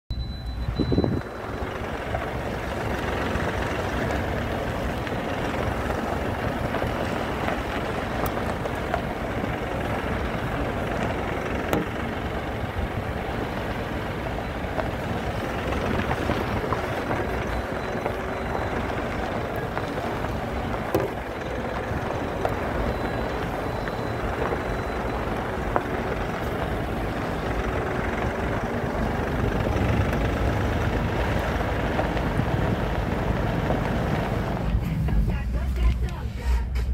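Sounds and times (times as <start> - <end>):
engine and tyre rumble: 0.0 - 36.9
knocks and rattles over bumps: 1.1 - 36.1.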